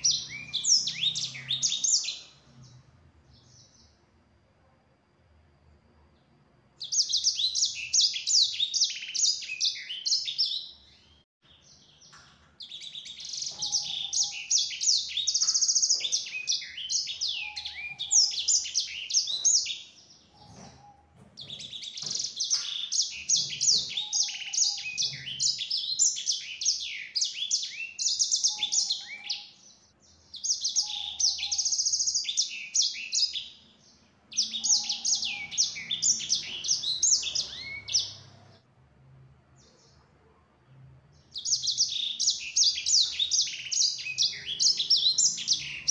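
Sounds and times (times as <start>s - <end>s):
canary twittering song: 0.0s - 4.1s, 6.8s - 38.7s, 41.1s - 45.9s.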